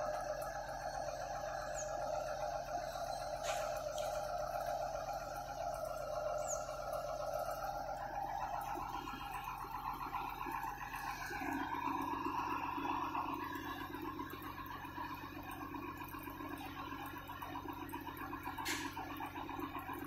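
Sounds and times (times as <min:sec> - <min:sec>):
crane engine low hum: 0:00.0 - 0:20.0
hydraulic whine: 0:00.0 - 0:20.0.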